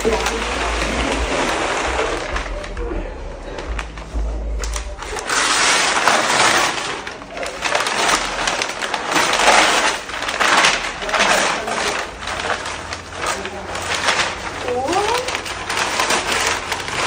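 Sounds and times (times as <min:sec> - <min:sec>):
packing material rustling: 0:00.0 - 0:17.0.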